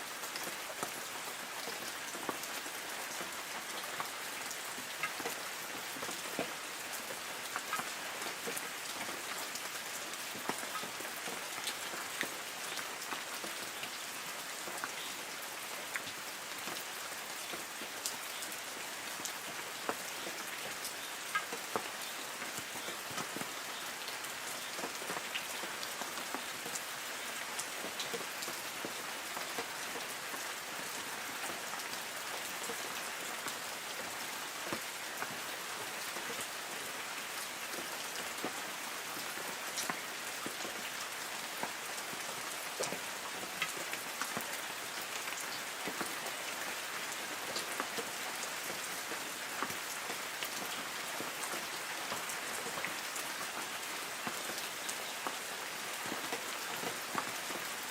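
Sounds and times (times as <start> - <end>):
rain pattering on leaves: 0.0 - 57.9.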